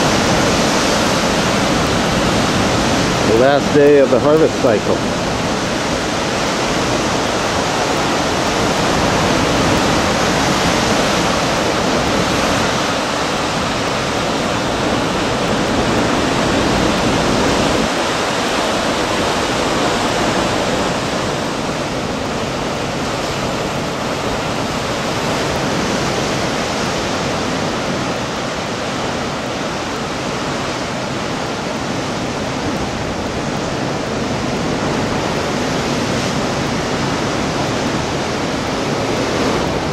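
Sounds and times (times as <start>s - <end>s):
ocean surf breaking over rocks: 0.0s - 39.9s.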